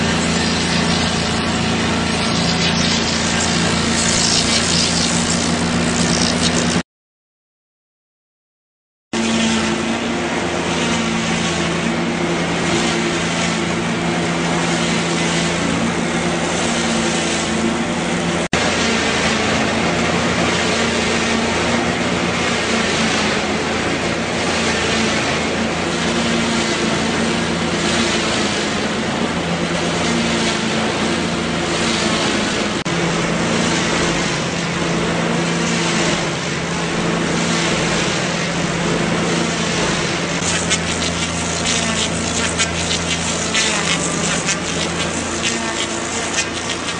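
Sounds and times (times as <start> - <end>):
lathe motor hum: 0.0 - 6.8, 9.2 - 46.9.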